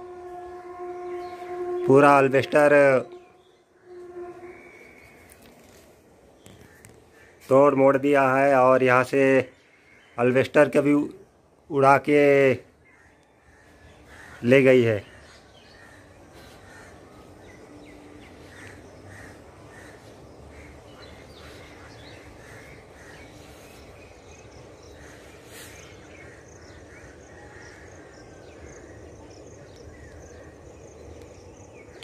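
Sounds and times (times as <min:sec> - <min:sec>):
birds calling: 0:00.0 - 0:32.0
low steady hiss: 0:04.4 - 0:32.0.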